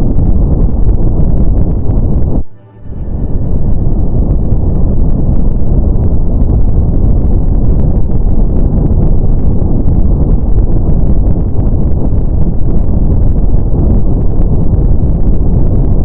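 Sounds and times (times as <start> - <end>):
deep rushing brown noise: 0.0 - 16.0.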